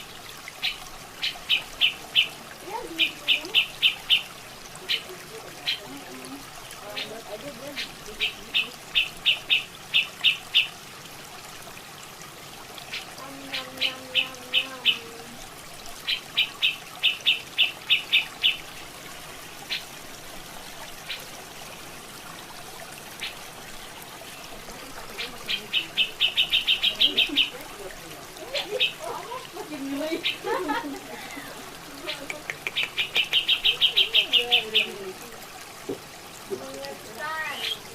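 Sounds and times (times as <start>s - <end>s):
running water trickling: 0.0s - 37.9s.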